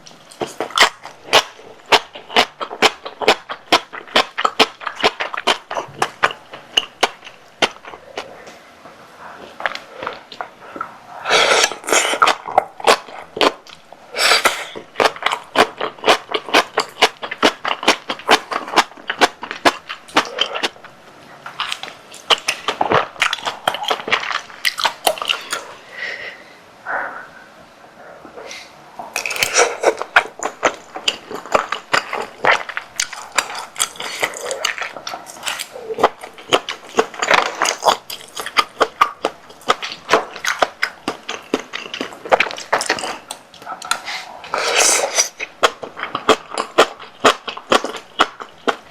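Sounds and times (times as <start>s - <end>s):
chewing with wet mouth smacks: 0.3s - 8.4s, 11.6s - 25.7s, 29.1s - 48.9s.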